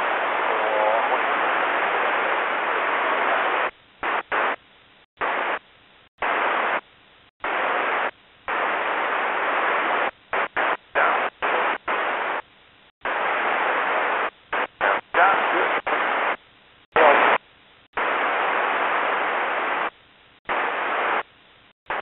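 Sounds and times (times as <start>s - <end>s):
radio static hiss bursts: 0.0s - 4.6s, 5.2s - 22.0s.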